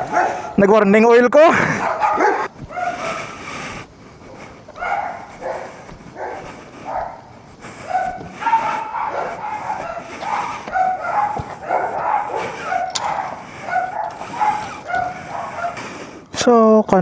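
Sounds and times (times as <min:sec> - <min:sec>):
dog barking and yipping: 0:00.0 - 0:16.4.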